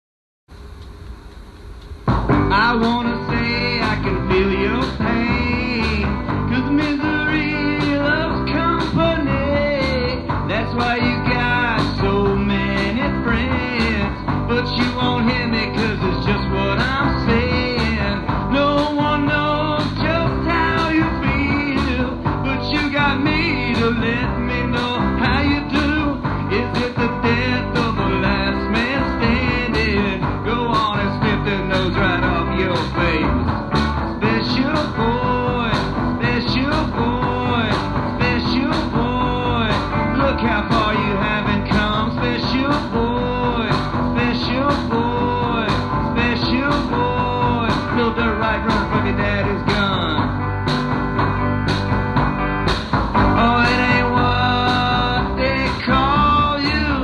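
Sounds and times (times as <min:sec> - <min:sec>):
drums beating: 0:00.6 - 0:57.0
guitar: 0:01.8 - 0:57.0
rock band playing: 0:02.0 - 0:57.0.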